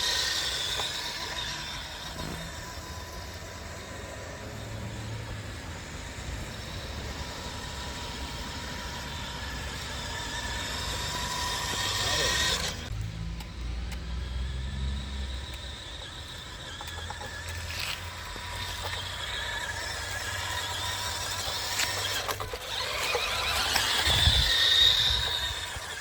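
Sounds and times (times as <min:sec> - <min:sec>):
model car motor whine: 0:00.0 - 0:26.0.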